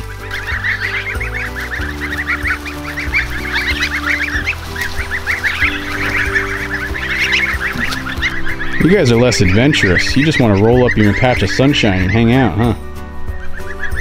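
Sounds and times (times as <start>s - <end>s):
goslings peeping: 0.0s - 14.0s
soft background music: 0.0s - 14.0s.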